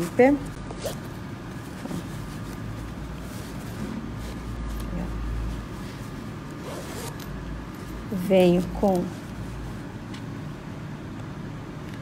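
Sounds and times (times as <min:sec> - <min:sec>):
steady low hum: 0:00.0 - 0:12.0
fabric pouch rustling: 0:00.4 - 0:10.1.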